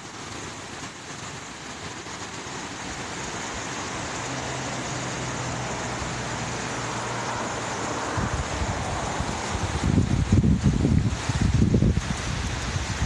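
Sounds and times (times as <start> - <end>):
creek water over rocks: 0.0 - 13.0.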